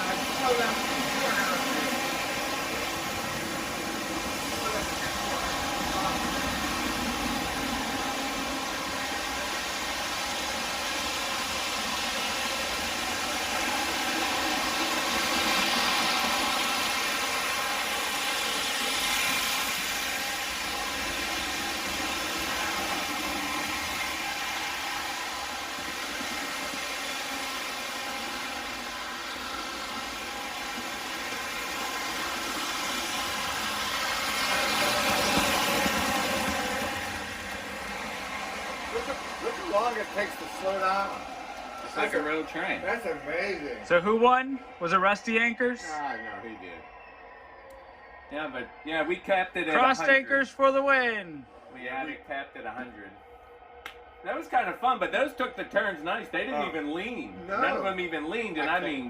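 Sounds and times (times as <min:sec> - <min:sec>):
model train wheels running: 0:00.0 - 0:46.7, 0:54.3 - 0:59.0.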